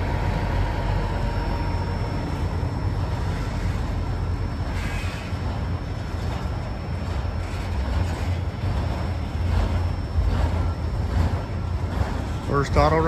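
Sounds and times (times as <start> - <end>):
freight cars rumbling on rails: 0.0 - 13.0.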